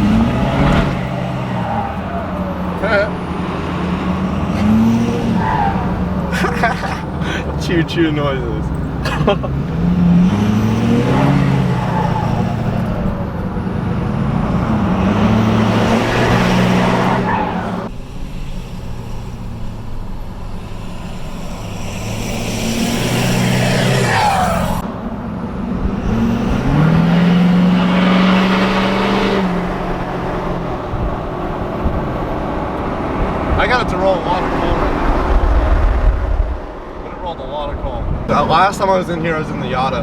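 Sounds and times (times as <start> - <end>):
diesel truck engine at full throttle: 0.0 - 40.0.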